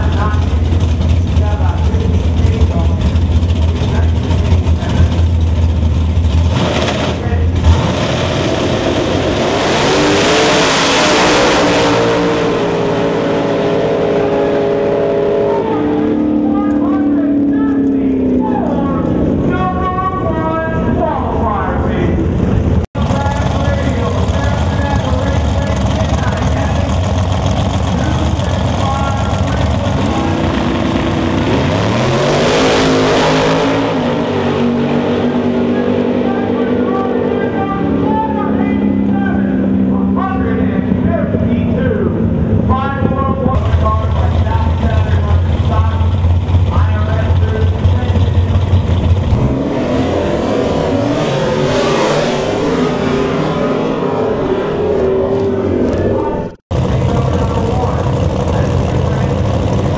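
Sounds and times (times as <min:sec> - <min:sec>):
race car engines accelerating: 0:00.0 - 0:59.9.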